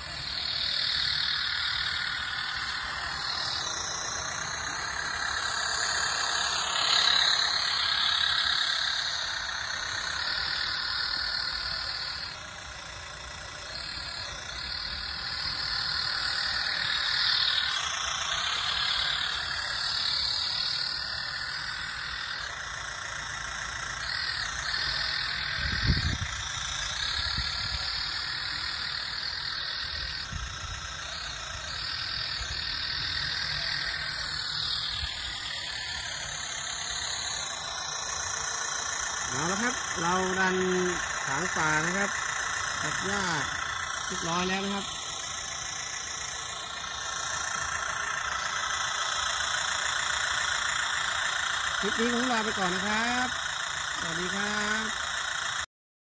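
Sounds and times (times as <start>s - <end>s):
model tractor running: 0.0s - 55.7s.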